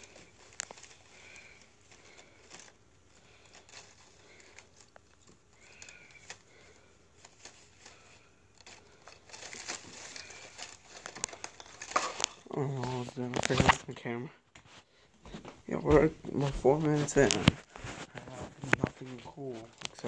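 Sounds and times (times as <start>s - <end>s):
rustling and crinkling: 0.0s - 20.0s.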